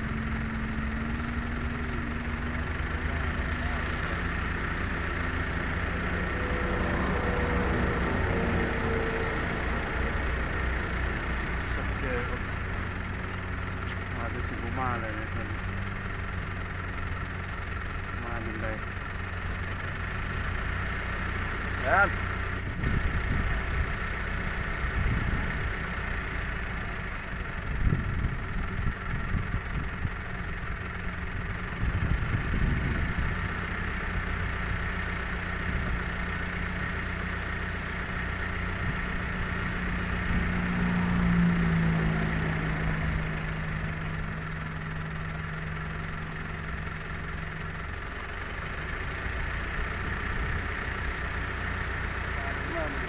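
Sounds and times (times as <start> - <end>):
engine humming: 0.0 - 53.0
higher engine tone: 0.0 - 53.0.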